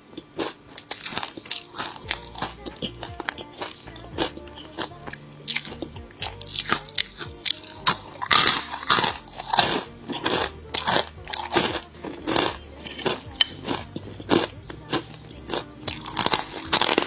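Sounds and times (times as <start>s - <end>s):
crunching dried fruit chips: 0.2s - 17.0s.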